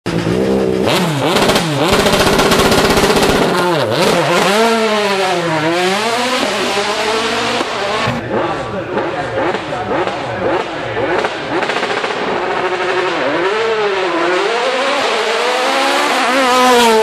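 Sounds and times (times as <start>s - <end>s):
race car engine revving: 0.1s - 17.0s.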